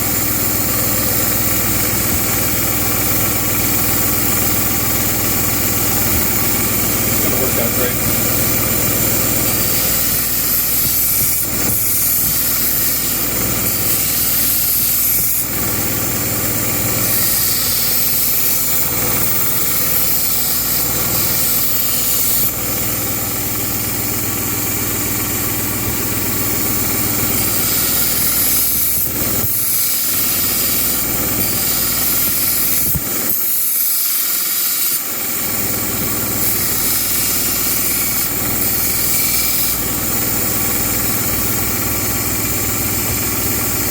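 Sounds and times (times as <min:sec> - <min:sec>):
belt grinder grinding blade: 0:00.0 - 0:43.9
grinder motor hum: 0:00.0 - 0:43.9.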